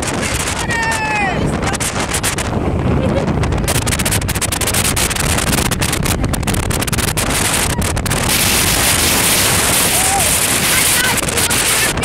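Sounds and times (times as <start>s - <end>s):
boat engine rumble: 0.0s - 12.0s
wind buffeting microphone: 0.0s - 12.0s.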